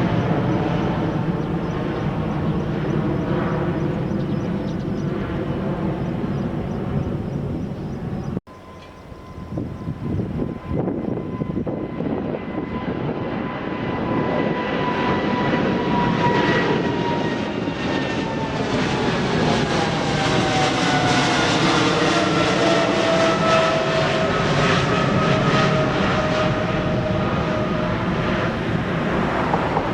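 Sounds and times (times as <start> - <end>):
jet engines passing: 0.0 - 29.9.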